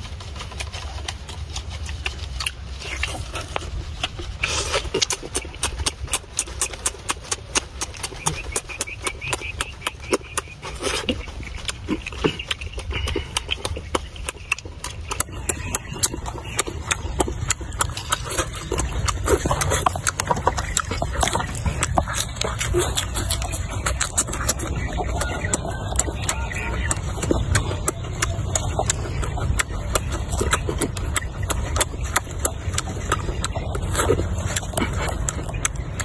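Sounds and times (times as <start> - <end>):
low steady rumble: 0.0 - 36.0
man chewing food: 0.0 - 36.0
wet mouth clicks and lip-smacks: 1.0 - 36.0.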